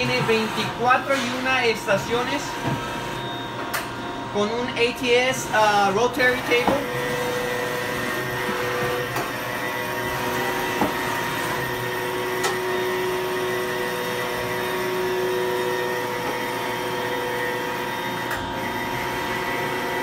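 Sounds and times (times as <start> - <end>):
machine hum with whine: 0.0 - 20.0.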